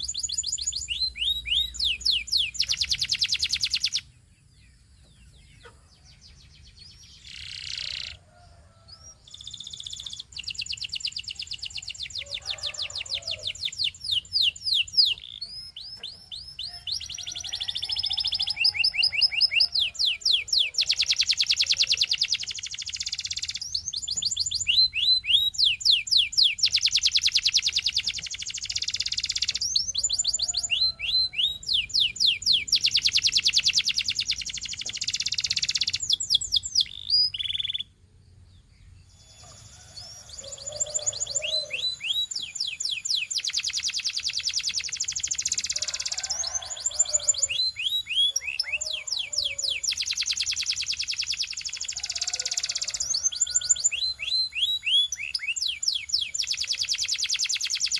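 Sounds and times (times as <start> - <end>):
canary singing rolling trills: 0.0 - 57.9.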